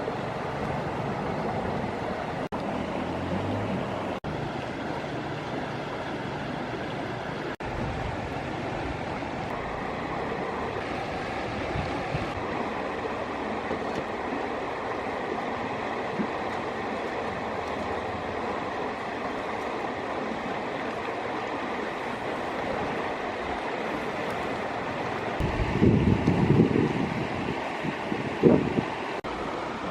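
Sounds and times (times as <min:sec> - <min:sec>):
river water flowing: 0:00.0 - 0:29.9.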